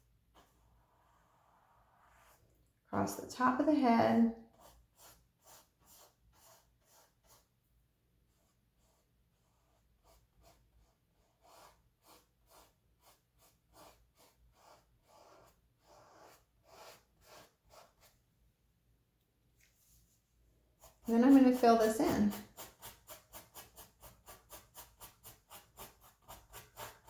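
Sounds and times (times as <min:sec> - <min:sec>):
paintbrush strokes on canvas: 0:00.3 - 0:07.6, 0:08.3 - 0:18.2, 0:19.6 - 0:27.0.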